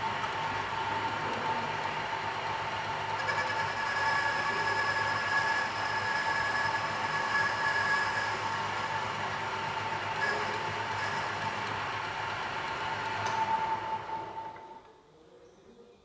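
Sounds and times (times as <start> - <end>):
lathe machine hum: 0.0 - 14.8
lathe tool cutting whine: 0.0 - 14.8.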